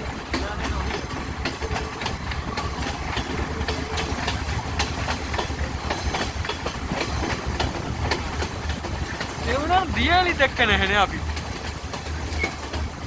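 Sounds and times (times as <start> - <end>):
train carriages rumbling: 0.0 - 13.0
wheels clacking over rail joints: 0.0 - 13.0.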